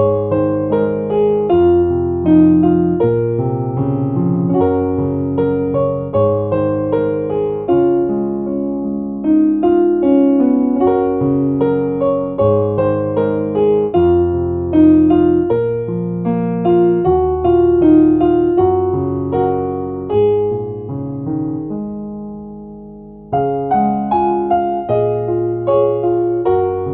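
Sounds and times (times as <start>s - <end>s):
piano melody over chords: 0.0s - 26.9s.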